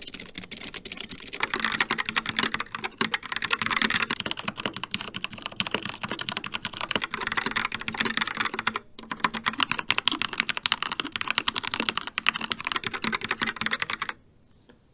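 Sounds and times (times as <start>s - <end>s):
fast typing on mechanical keyboard: 0.0s - 14.2s.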